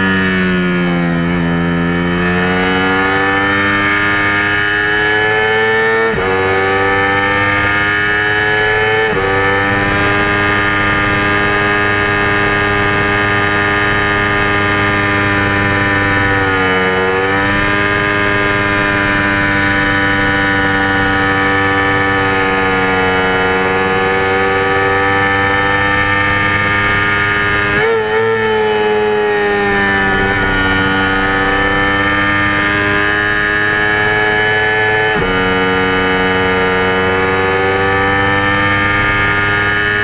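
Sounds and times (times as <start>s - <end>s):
motorcycle engine revving high: 0.0s - 40.0s.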